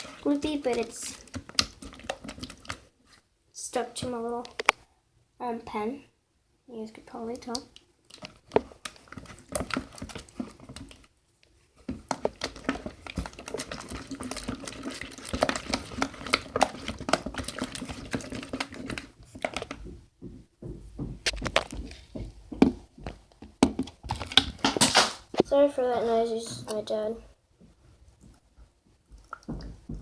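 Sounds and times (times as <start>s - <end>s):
slime squelching in a bowl: 0.0s - 4.8s, 7.1s - 20.2s, 21.2s - 30.0s.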